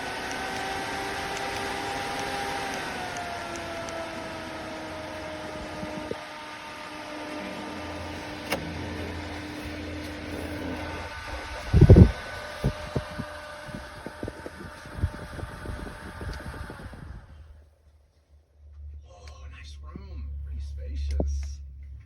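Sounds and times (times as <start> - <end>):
ventilation fan humming: 0.0 - 22.0.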